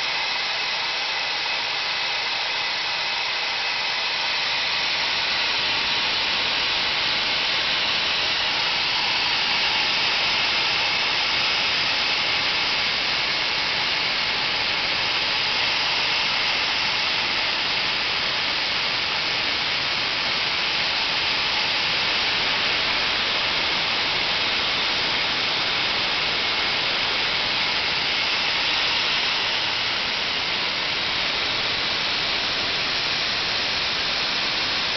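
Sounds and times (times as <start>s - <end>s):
faint high whine: 0.0s - 34.9s
gas turbine jet rush: 0.0s - 34.9s.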